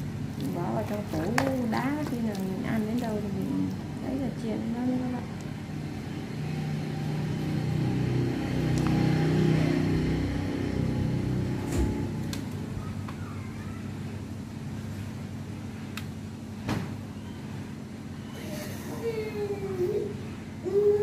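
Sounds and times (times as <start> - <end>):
motor hum: 0.0 - 21.0.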